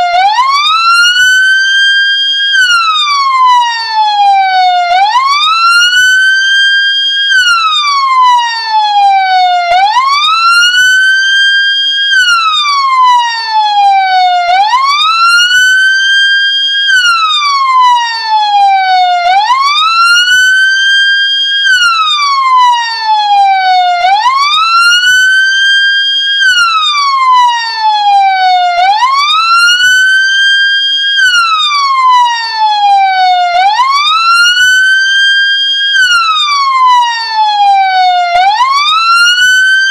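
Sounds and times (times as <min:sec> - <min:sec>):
ambulance siren wailing: 0:00.0 - 0:39.9.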